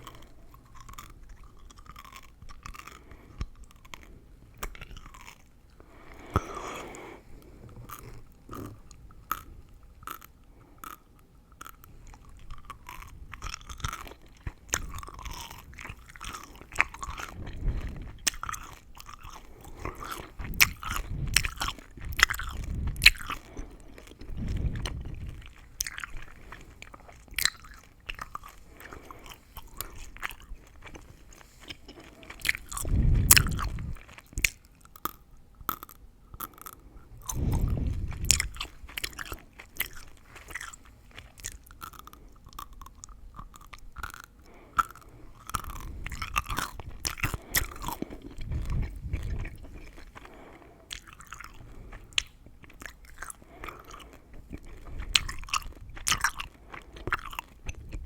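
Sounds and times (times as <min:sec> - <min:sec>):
gum chewing: 0:00.0 - 0:58.0.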